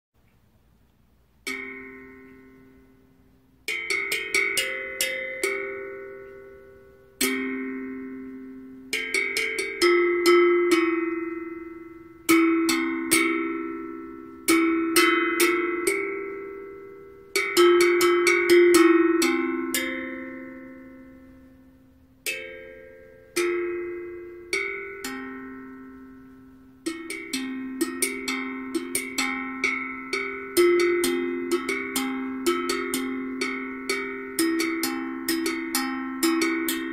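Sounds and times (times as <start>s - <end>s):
steel tongue drum notes ringing: 1.1s - 36.9s.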